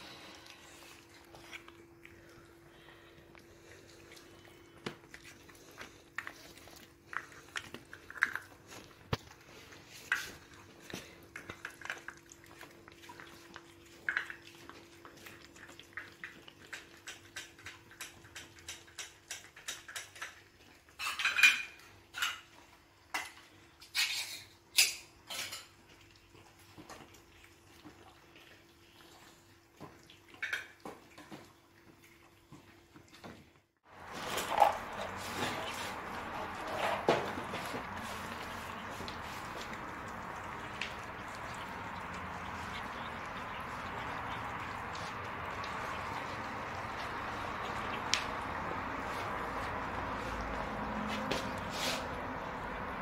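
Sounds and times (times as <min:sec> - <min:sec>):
cats chewing and licking: 0:00.0 - 0:53.0.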